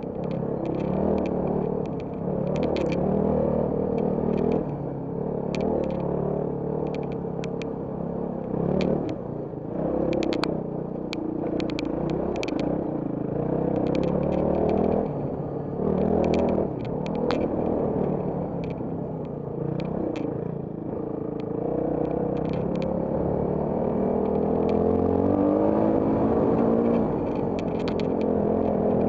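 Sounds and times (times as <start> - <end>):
clicks and rattles over stones: 0.0 - 7.8, 8.4 - 9.3, 10.0 - 20.5, 21.3 - 29.0
motorcycle engine revving: 0.0 - 29.0.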